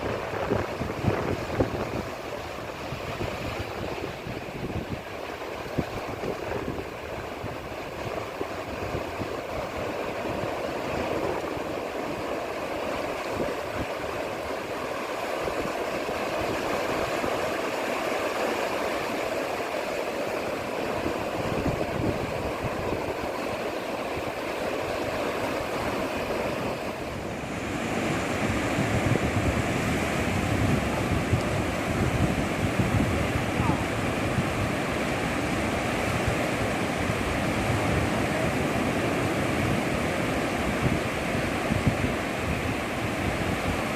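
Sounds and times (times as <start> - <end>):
wind on microphone: 0.0 - 17.7, 20.6 - 43.9
sea waves washing onto beach: 0.0 - 43.9.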